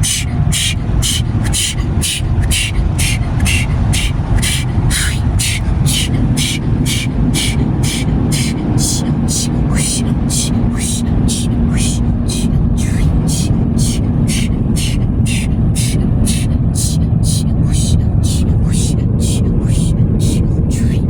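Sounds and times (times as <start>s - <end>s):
car wash machinery rumble: 0.0s - 21.0s.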